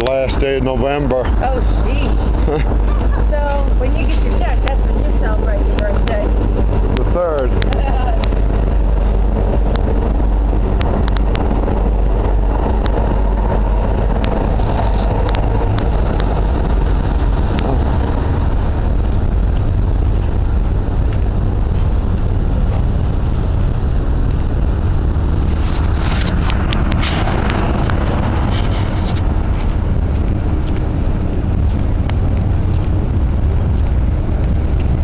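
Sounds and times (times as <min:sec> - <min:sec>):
street traffic rumble: 0:00.0 - 0:35.0
wind buffeting microphone: 0:00.0 - 0:35.0.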